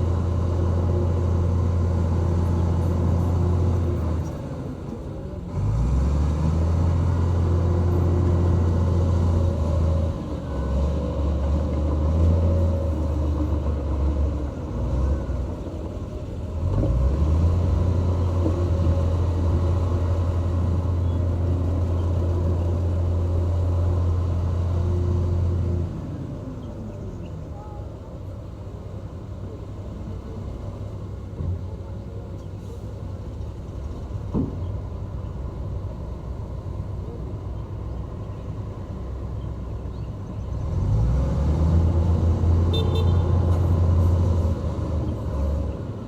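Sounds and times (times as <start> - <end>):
diesel earthmover engine revving: 0.0 - 27.2, 32.3 - 46.0.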